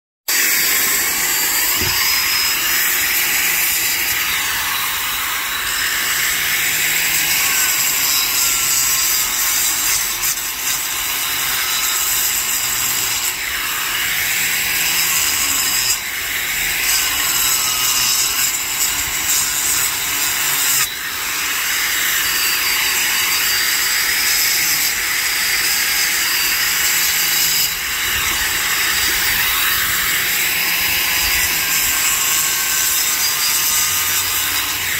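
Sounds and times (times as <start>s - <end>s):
angle grinder cutting mortar: 0.3s - 34.9s.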